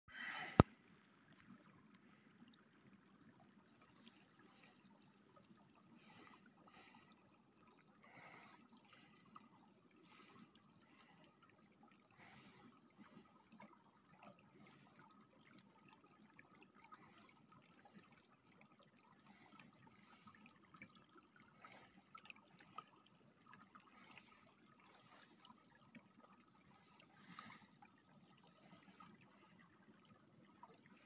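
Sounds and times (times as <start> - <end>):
stream trickling over stones: 0.1 - 31.0.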